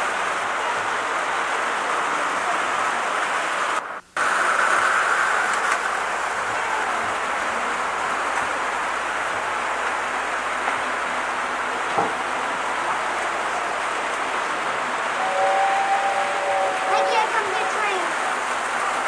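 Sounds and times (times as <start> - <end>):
model trains rushing: 0.0 - 19.0
tape hiss: 0.0 - 19.0.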